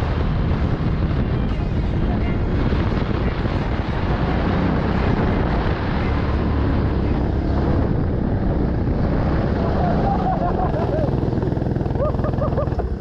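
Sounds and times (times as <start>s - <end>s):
go-kart engine running: 0.0s - 13.0s
wind buffeting microphone: 0.0s - 13.0s.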